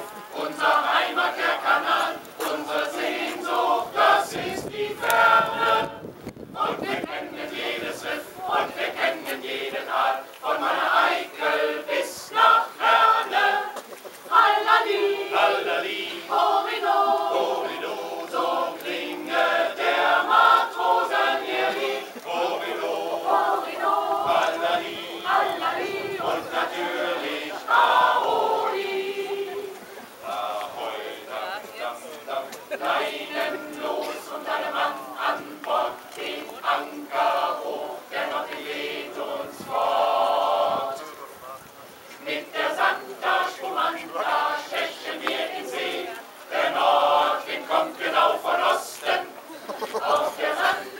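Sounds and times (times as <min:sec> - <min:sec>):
mixed choir singing: 0:00.0 - 0:41.3, 0:42.0 - 0:50.9.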